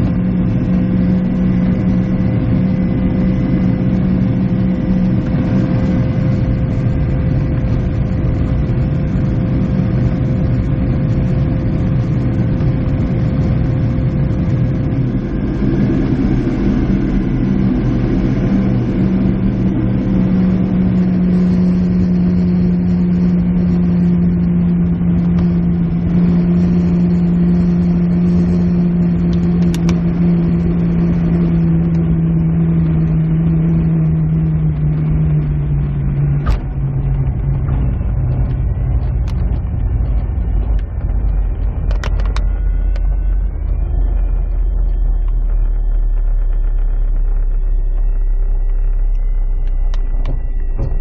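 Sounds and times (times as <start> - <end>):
wind noise in glider cockpit: 0.0 - 51.0.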